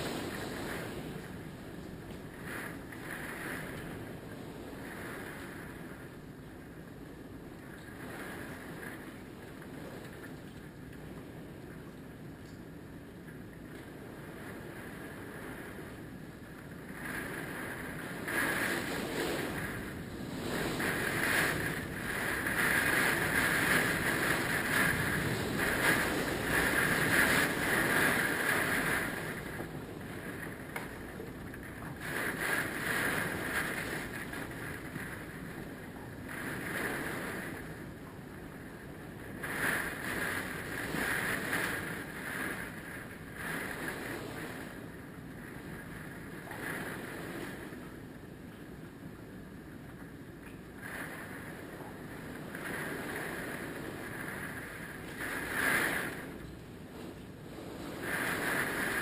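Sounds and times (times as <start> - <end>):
strong wind gusting: 0.0 - 12.9, 13.6 - 59.0.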